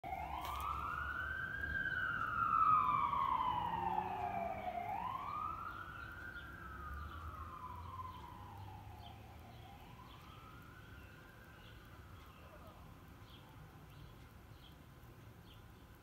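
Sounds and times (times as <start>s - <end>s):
emergency siren wailing: 0.0s - 13.7s.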